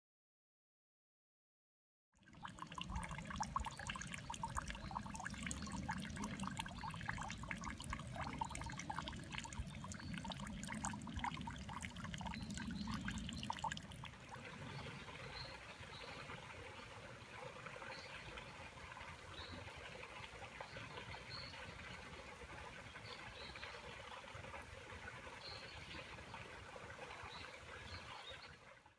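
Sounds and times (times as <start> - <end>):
water trickling into stone basin: 2.2 - 28.5.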